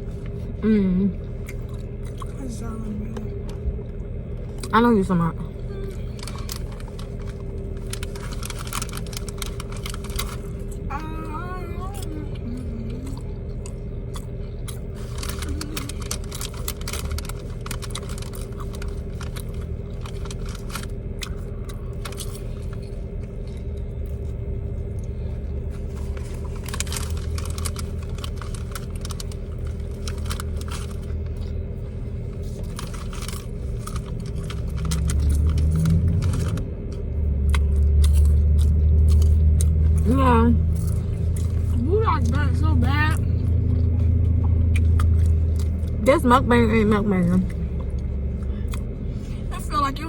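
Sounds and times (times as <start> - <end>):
chewing and crunching fried chicken: 0.0 - 49.6
low rumble: 0.0 - 50.0
steady low hum: 0.0 - 50.0.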